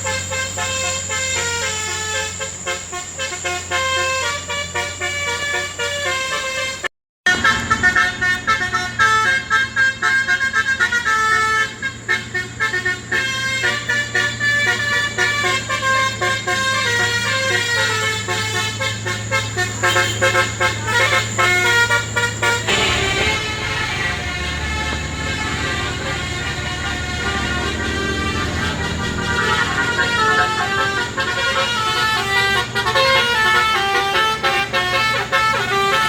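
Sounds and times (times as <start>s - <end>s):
low engine hum: 0.0s - 36.0s
multi-tone truck horn melody: 0.0s - 36.0s.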